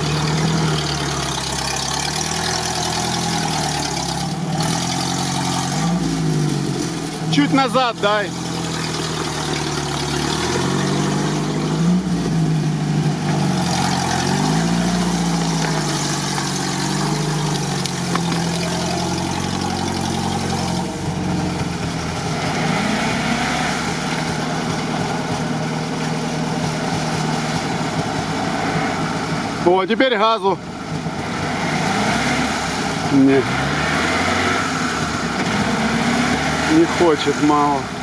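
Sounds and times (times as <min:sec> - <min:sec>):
off-road engine revving: 0:00.0 - 0:38.0.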